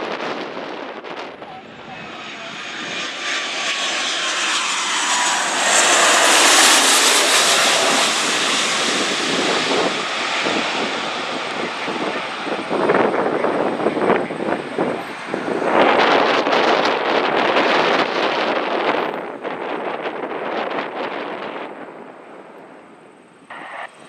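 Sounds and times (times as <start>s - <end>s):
airliner passing: 0.0s - 24.0s
wind buffeting microphone: 0.0s - 24.0s.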